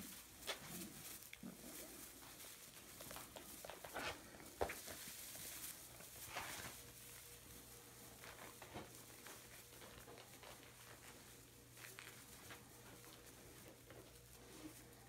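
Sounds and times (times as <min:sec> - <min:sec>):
puppy paws pattering on straw: 0:00.0 - 0:15.0.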